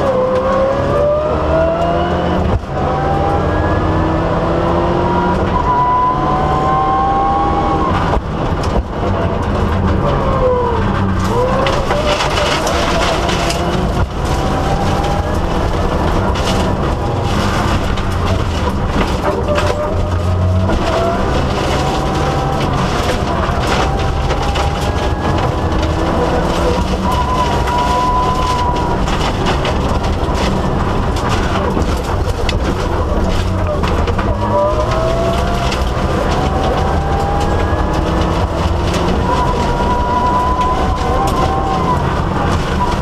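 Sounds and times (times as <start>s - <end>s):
car engine revving: 0.0s - 43.0s
road and drivetrain noise: 0.0s - 43.0s.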